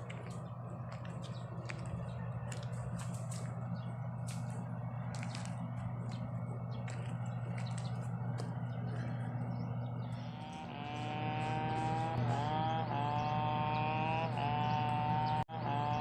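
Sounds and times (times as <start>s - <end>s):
high whine: 0.0s - 15.5s
vehicle engine droning: 0.0s - 16.0s.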